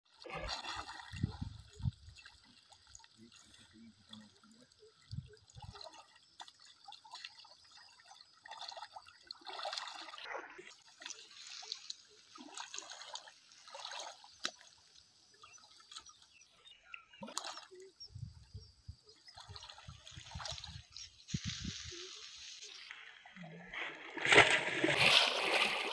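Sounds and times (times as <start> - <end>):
water splashing around wading person: 0.1 - 16.6, 17.2 - 25.9.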